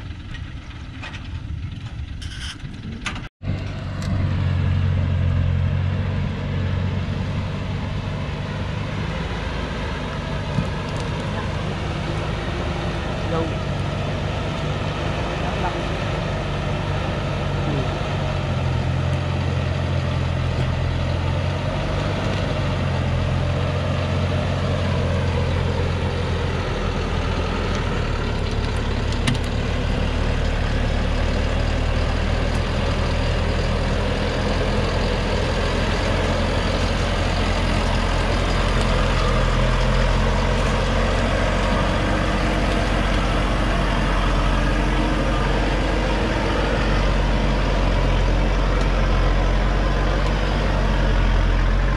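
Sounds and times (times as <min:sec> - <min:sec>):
diesel truck engine running: 0:00.0 - 0:51.9.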